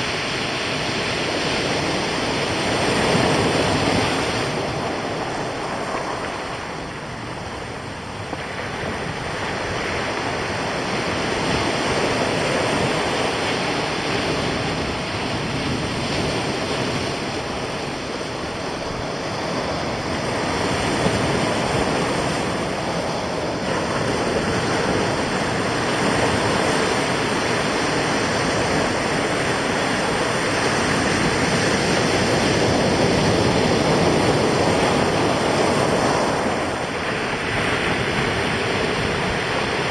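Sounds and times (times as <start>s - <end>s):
surf breaking on pebbly beach: 0.0s - 39.9s.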